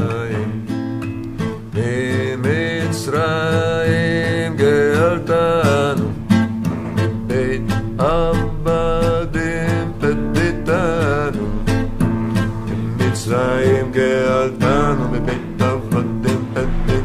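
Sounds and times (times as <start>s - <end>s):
man singing: 0.0s - 0.9s, 1.6s - 12.0s, 12.7s - 17.0s
strummed acoustic guitar: 0.0s - 17.0s.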